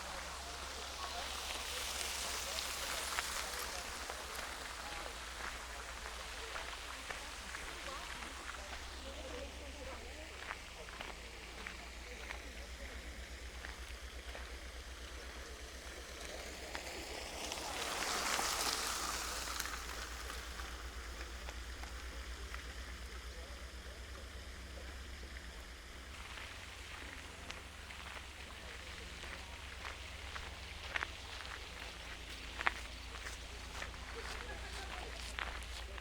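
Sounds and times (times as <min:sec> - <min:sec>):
light hiss: 0:00.0 - 0:36.0
steady low rumble: 0:00.0 - 0:36.0.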